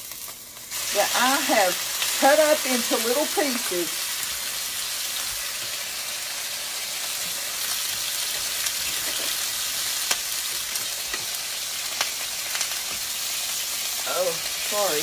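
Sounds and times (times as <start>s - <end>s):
chicken sizzling in frying pan: 0.0s - 15.0s.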